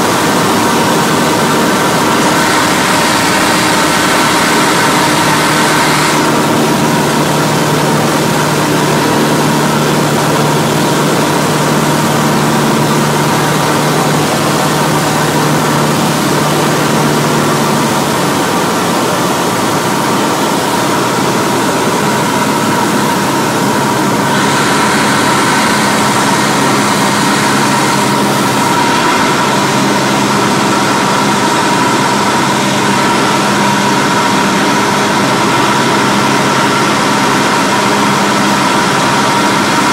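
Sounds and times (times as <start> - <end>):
airplane engine drone: 0.0 - 39.9.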